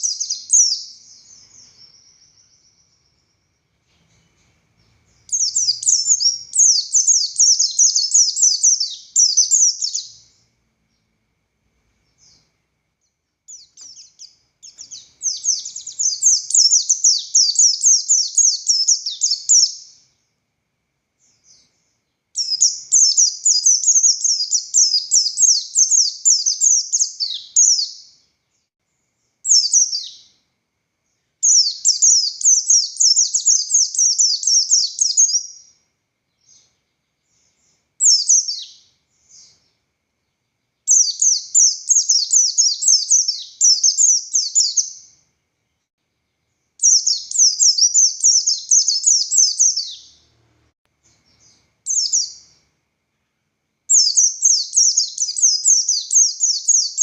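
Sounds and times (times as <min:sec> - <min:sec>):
white-eye bird twittering song: 0:00.0 - 0:11.1, 0:12.0 - 0:20.4, 0:21.2 - 0:30.4, 0:31.0 - 0:45.2, 0:46.4 - 0:50.3, 0:51.1 - 0:57.0.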